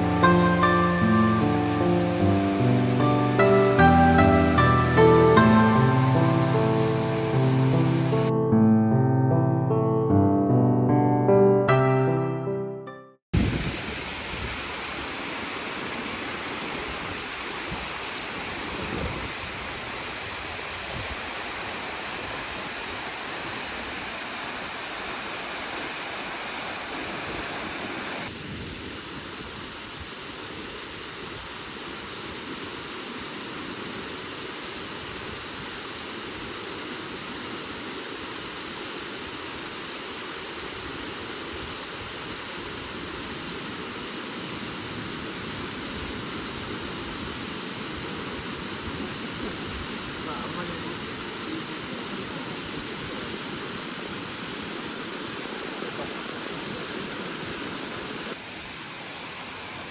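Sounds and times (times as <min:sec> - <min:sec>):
waterfall rushing: 0:00.0 - 0:08.4, 0:13.4 - 0:59.9.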